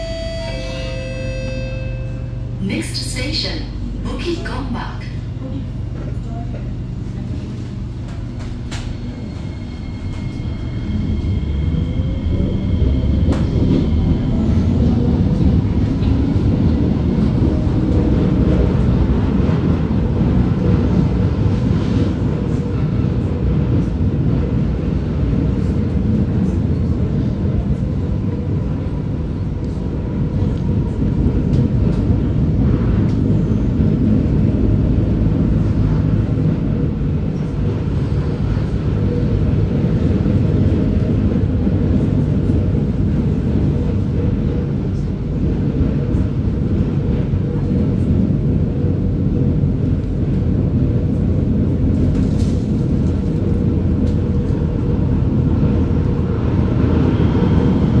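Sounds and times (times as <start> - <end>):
wheel on rail rolling noise: 5.5 - 58.0.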